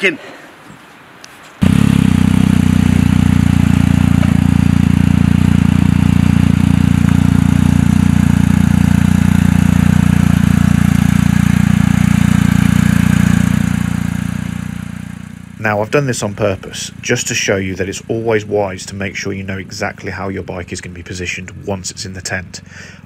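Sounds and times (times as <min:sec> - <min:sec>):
motorcycle engine idling: 0:01.6 - 0:23.0.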